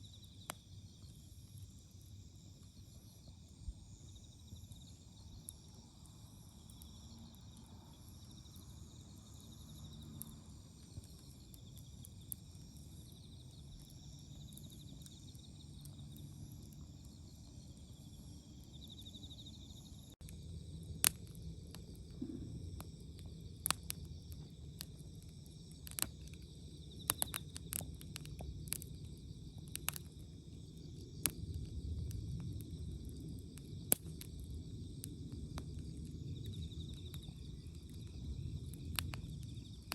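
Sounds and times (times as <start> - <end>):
crickets chirping: 0.0 - 39.9
campfire crackling: 0.1 - 39.9.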